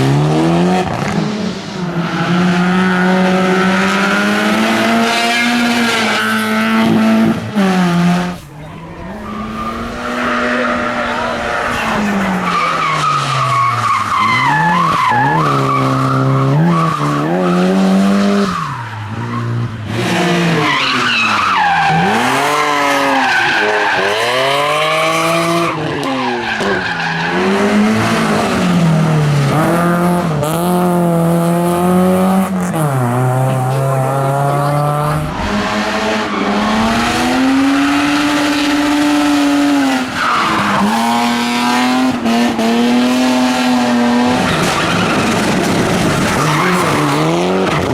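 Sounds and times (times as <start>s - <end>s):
race car engine revving: 0.0s - 47.9s.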